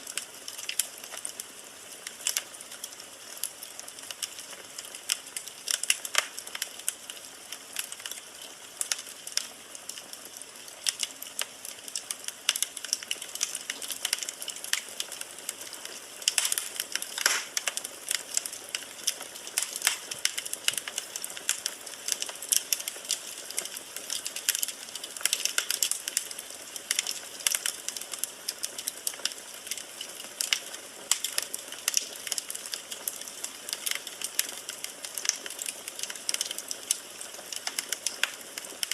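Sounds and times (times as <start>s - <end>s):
firewood crackling and popping: 0.0s - 38.9s
soft fire hiss: 0.0s - 38.9s.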